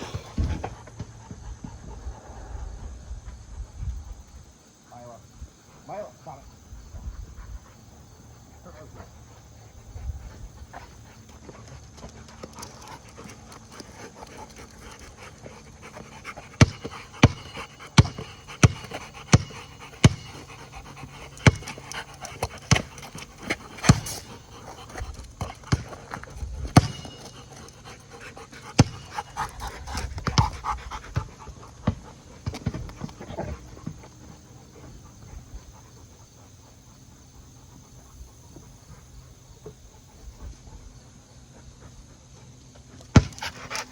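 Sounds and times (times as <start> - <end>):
dog panting: 0.0 - 43.9.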